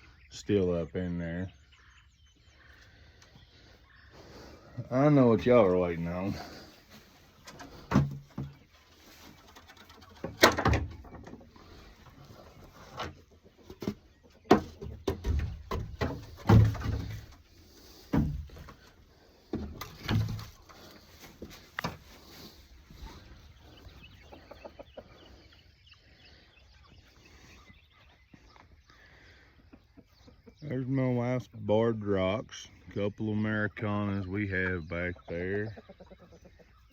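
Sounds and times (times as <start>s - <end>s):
hens clucking: 0.0s - 36.9s.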